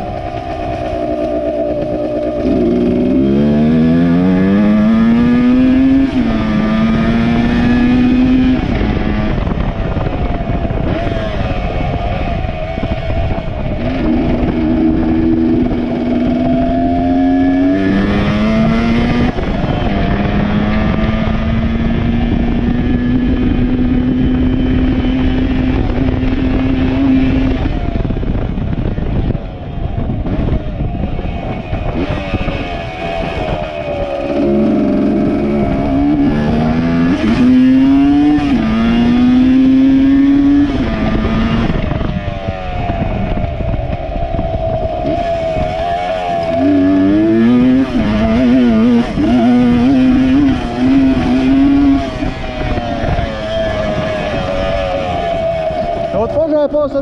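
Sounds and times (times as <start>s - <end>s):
dirt bike engine revving: 0.0s - 29.1s, 31.4s - 57.0s.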